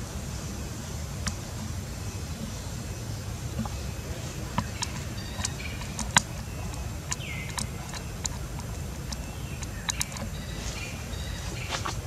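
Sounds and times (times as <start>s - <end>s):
steady low rumble: 0.0s - 12.0s
monkey chewing fruit: 1.0s - 12.0s.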